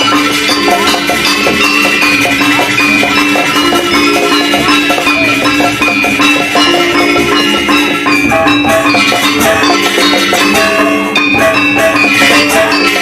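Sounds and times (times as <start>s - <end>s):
drums: 0.0s - 13.0s
metallophones ringing in fast runs: 0.0s - 13.0s.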